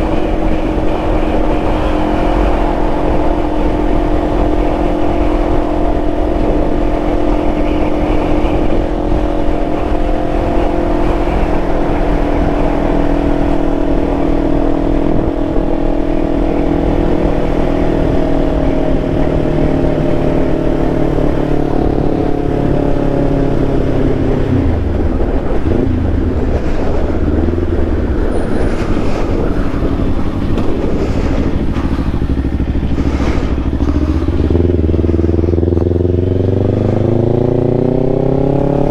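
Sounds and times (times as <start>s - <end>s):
motorcycle engine running: 0.0s - 38.9s
wind rush: 0.0s - 38.9s.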